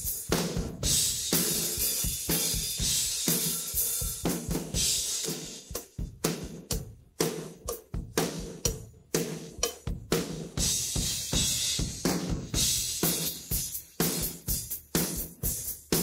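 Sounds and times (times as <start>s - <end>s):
rock drum beat: 0.0s - 16.0s.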